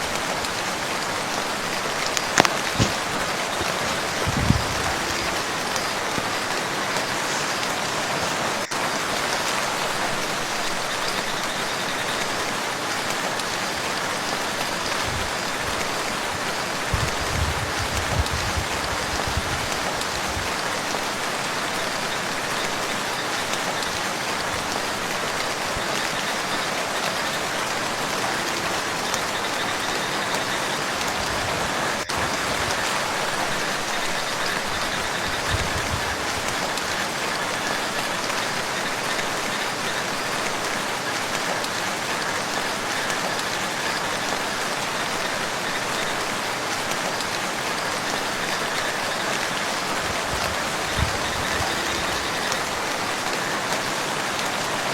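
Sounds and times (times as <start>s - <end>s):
rain falling on lake water: 0.0s - 54.9s.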